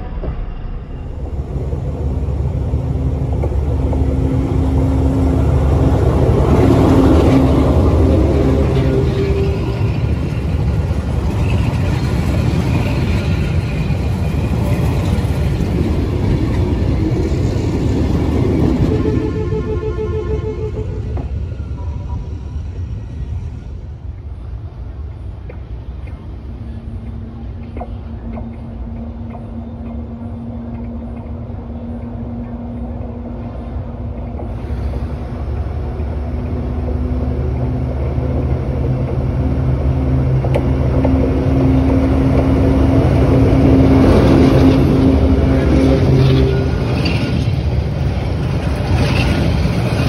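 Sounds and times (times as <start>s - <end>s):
locomotive engine rumbling: 0.0s - 50.0s.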